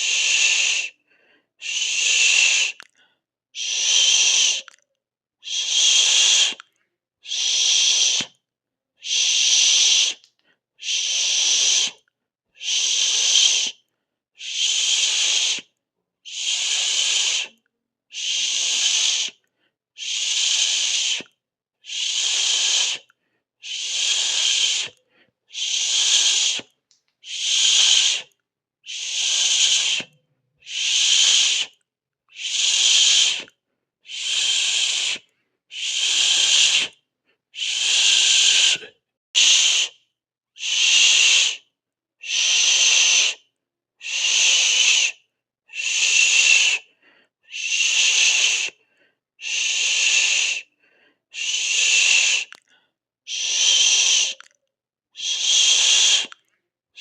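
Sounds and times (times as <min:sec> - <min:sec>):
person hissing: 0:00.0 - 0:01.0, 0:01.6 - 0:02.8, 0:03.6 - 0:04.8, 0:05.4 - 0:06.6, 0:07.2 - 0:08.4, 0:09.0 - 0:12.0, 0:12.6 - 0:13.8, 0:14.4 - 0:15.7, 0:16.3 - 0:19.4, 0:20.0 - 0:37.0, 0:37.6 - 0:40.0, 0:40.6 - 0:41.6, 0:42.2 - 0:46.9, 0:47.5 - 0:48.8, 0:49.4 - 0:52.6, 0:53.3 - 0:54.5, 0:55.2 - 0:56.4.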